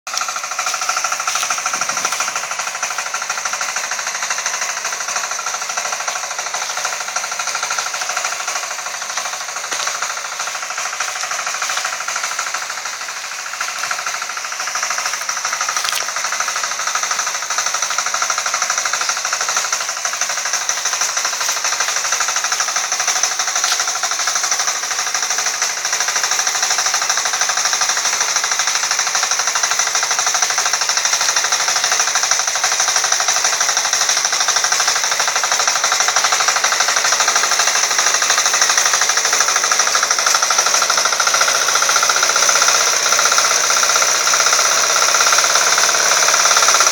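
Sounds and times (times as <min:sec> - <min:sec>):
small tractor engine chugging: 0:00.1 - 0:46.9.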